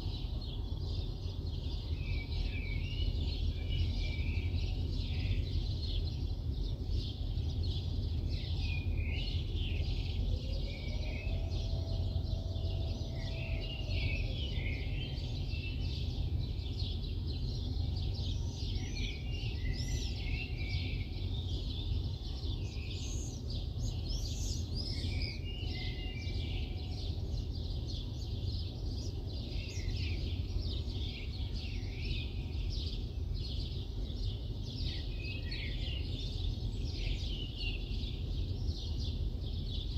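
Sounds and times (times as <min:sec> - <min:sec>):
low city rumble: 0:00.0 - 0:39.9
small birds chirping: 0:00.0 - 0:39.9.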